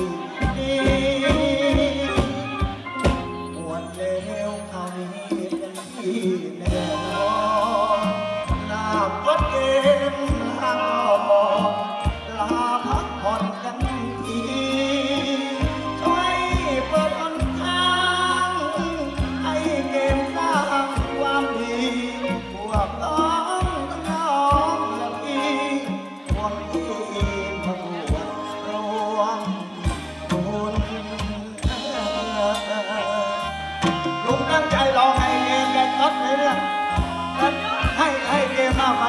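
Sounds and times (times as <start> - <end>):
bass line: 0.0 - 39.0
man singing into a microphone: 0.0 - 39.0.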